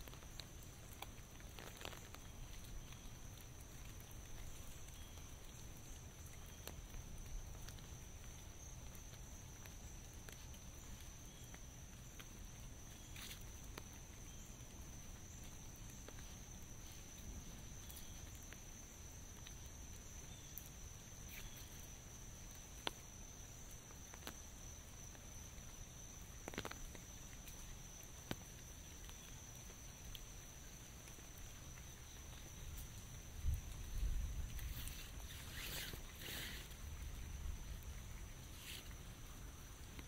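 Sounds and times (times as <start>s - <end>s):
raindrops tapping on umbrella: 0.0s - 23.2s, 23.8s - 40.0s
low steady hiss: 0.0s - 40.0s.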